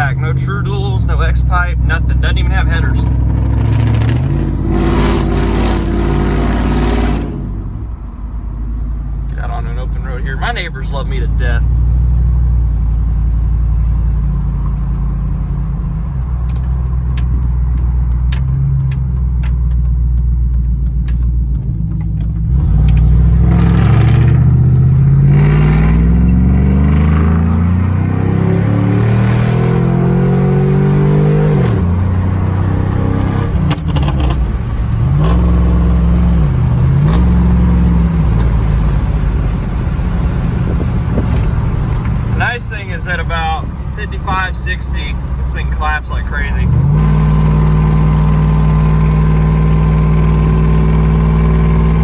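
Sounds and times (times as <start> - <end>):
truck engine accelerating: 0.0 - 52.0.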